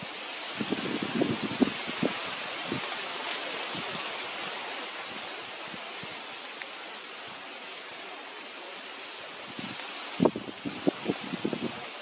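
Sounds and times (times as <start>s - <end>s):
light drizzle hissing: 0.0s - 12.0s
soft rain taps: 0.0s - 12.0s.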